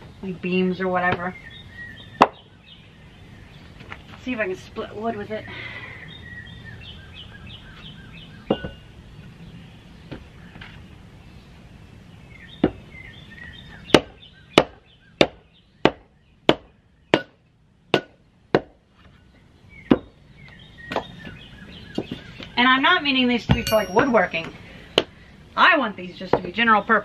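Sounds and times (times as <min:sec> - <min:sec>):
birds chirping faintly: 0:00.0 - 0:27.0.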